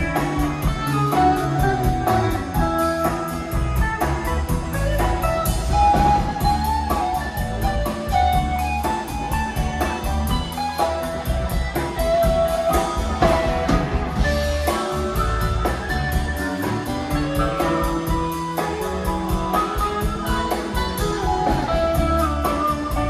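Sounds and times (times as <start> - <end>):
blues-rock band playing: 0.0 - 23.0
harmonica lead notes: 0.0 - 23.0.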